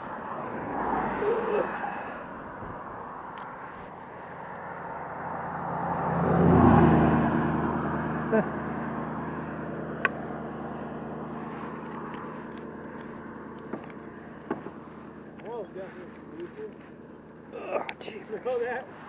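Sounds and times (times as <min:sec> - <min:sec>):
vehicle passing by: 0:00.0 - 0:19.0.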